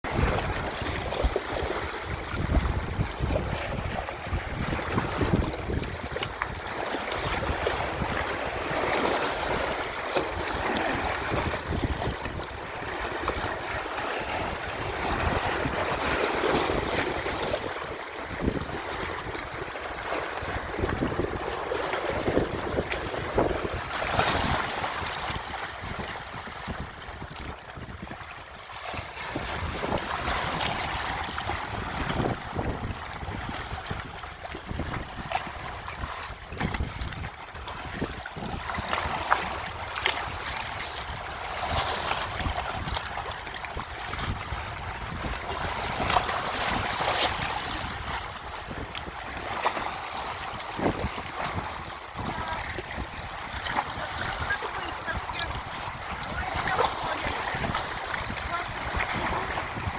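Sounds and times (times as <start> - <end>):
sea waves washing ashore: 0.0 - 59.9
wind on microphone: 0.0 - 59.9.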